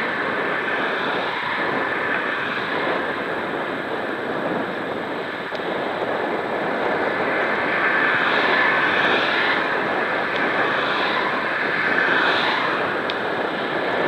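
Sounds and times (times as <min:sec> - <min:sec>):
road traffic: 0:00.0 - 0:14.0
tyres on tarmac: 0:00.0 - 0:14.0
wind on camera: 0:00.0 - 0:14.0.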